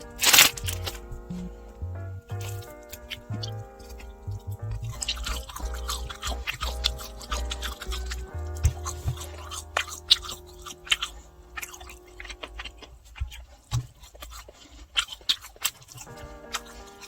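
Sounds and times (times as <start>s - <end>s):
person chewing crunchy food: 0.0s - 1.5s, 2.3s - 17.0s
quiet background music: 0.0s - 17.0s.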